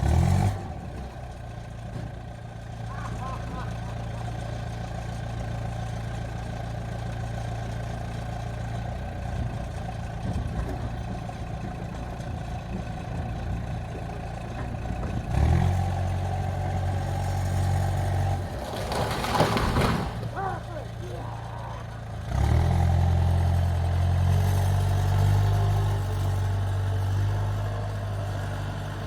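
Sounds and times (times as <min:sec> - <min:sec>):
heavy equipment engine revving: 0:00.0 - 0:01.5, 0:02.2 - 0:29.0.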